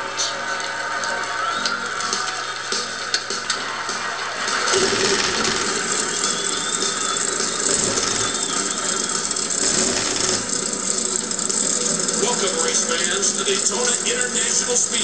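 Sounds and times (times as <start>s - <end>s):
race car engines running: 1.1s - 15.0s.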